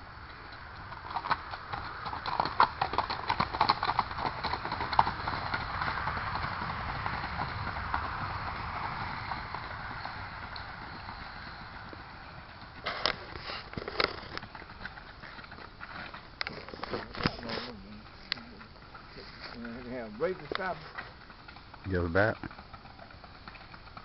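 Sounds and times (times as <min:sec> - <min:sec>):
rapid horse hoofbeats: 0:00.3 - 0:24.0.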